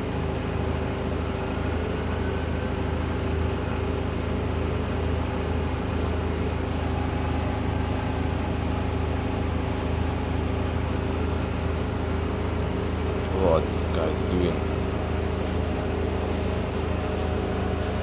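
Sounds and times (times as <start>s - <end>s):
bus diesel engine idling: 0.0s - 18.0s
cooling fan running: 0.0s - 18.0s.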